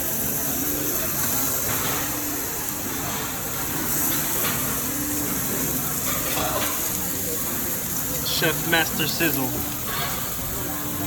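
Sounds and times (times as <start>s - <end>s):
low background murmur: 0.0s - 11.0s
meat sizzling on a grill: 0.0s - 11.0s.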